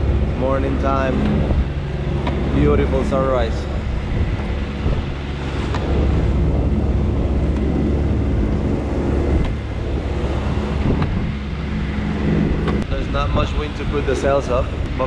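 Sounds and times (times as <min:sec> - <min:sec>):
boat motor humming: 0:00.0 - 0:15.0
water rushing along hull: 0:00.0 - 0:15.0
wind on microphone: 0:00.0 - 0:15.0.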